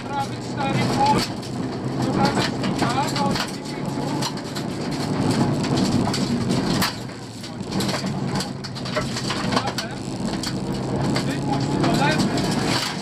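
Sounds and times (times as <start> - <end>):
car engine running hard: 0.0 - 13.0
gravel crunching under tyres: 0.0 - 13.0.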